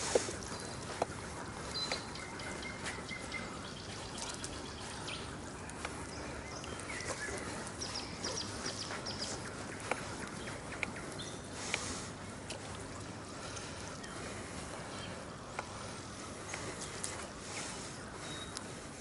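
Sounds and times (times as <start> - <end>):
birds calling: 0.0 - 19.0
water washing around a boat: 0.0 - 19.0.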